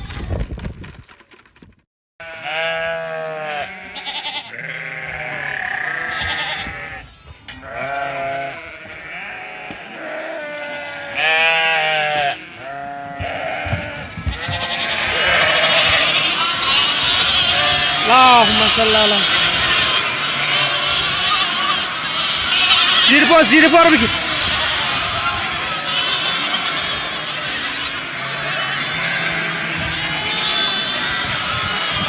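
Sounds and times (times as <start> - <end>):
goats bleating: 2.2 - 32.0.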